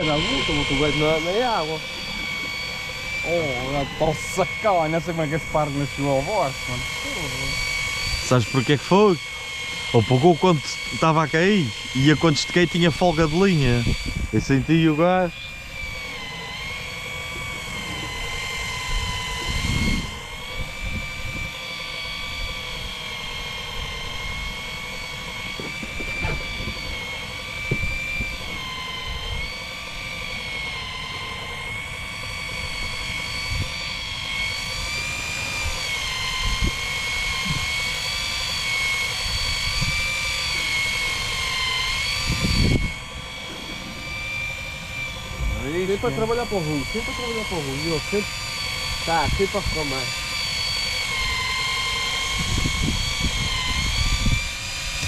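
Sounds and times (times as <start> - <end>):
boat engine whining: 0.0 - 55.0.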